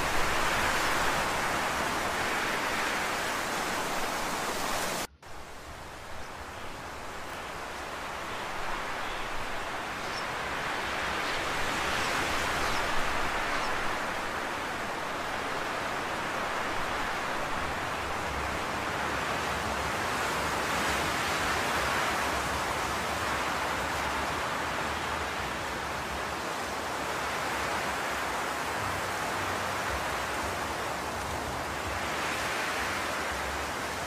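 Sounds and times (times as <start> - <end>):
steady rushing noise: 0.0 - 34.0.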